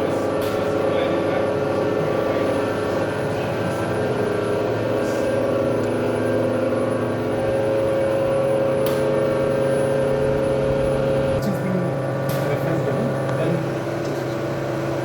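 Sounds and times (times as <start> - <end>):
electric motor whine: 1.0 - 15.0.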